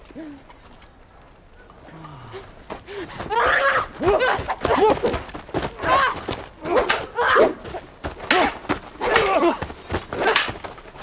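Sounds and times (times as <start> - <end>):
fighters grunting and crying out: 1.9 - 11.0.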